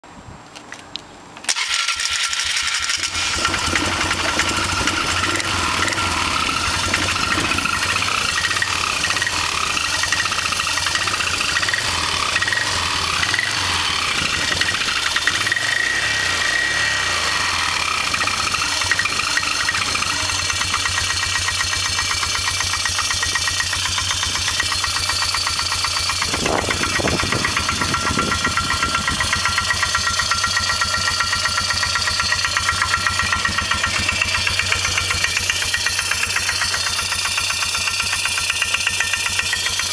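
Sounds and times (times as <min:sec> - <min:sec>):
engine starting and idling: 0:01.4 - 0:39.9.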